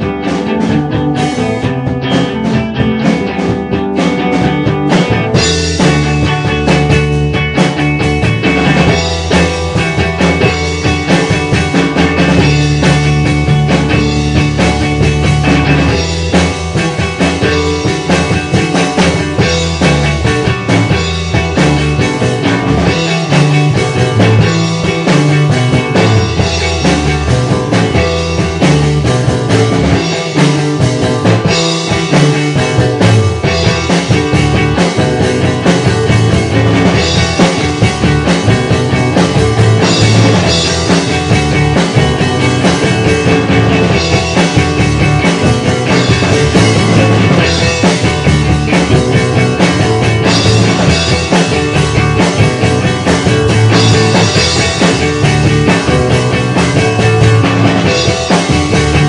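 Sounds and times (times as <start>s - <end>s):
bass guitar: 0.0s - 59.0s
drum kit beat: 0.0s - 59.0s
electric guitar: 0.0s - 59.0s.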